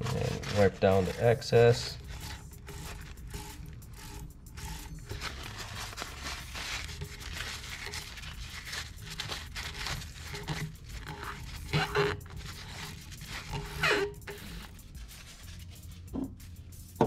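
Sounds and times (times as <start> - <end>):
paper towel rubbing: 0.0 - 16.9.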